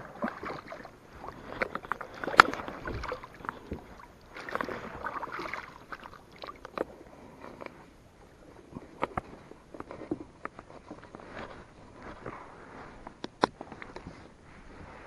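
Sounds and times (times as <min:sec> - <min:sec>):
water splashing and gurgling: 0:00.0 - 0:15.0.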